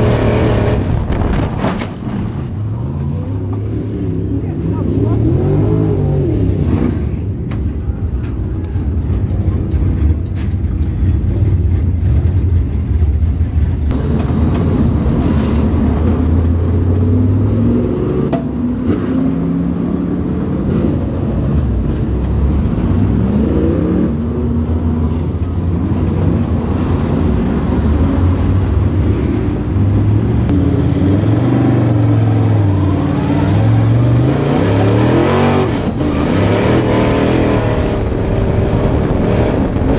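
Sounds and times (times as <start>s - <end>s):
race car engine revving: 0.0s - 7.4s, 8.7s - 39.9s.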